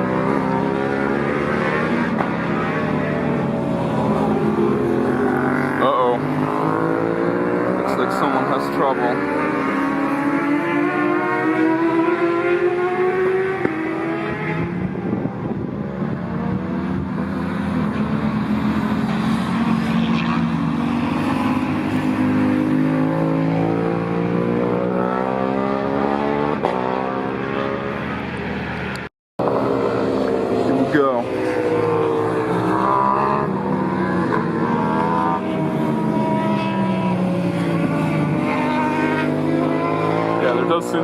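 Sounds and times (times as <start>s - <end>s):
racing motorcycle engines: 0.0s - 41.0s.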